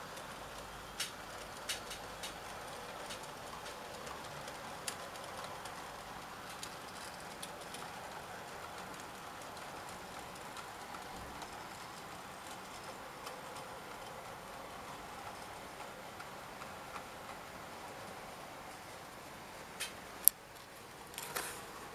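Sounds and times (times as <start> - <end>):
model train rolling hum: 0.0 - 21.9.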